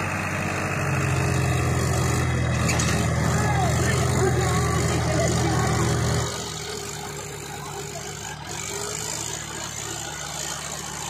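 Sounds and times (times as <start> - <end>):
tractor engines under heavy load: 0.0 - 11.0.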